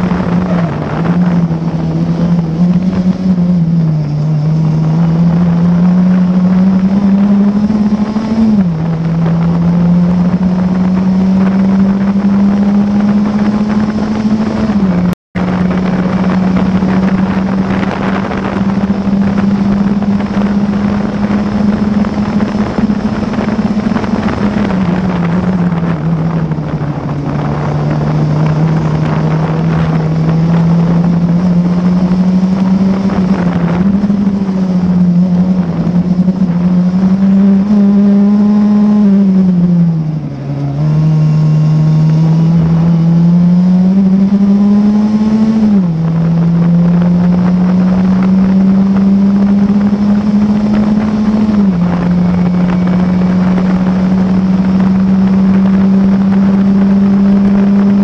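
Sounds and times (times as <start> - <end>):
race car engine revving through gears: 0.0 - 58.0.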